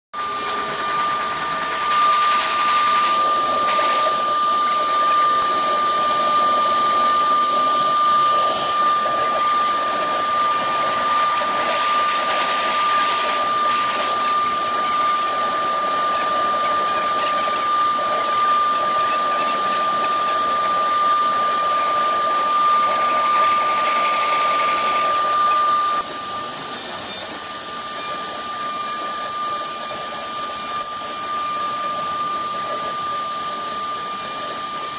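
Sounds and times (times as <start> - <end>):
router spindle whine: 0.2 - 34.9
bit cutting board hiss: 0.3 - 5.3, 6.2 - 21.0, 22.7 - 34.9.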